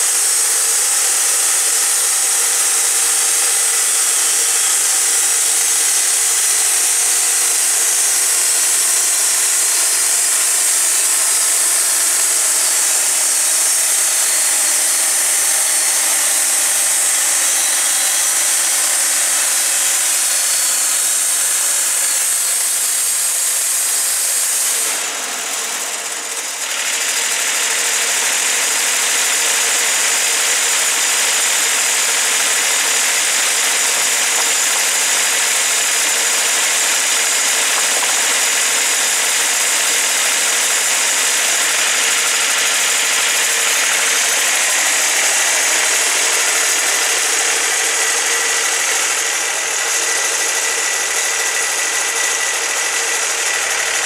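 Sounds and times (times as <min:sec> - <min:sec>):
bandsaw cutting log: 0:00.0 - 0:54.0.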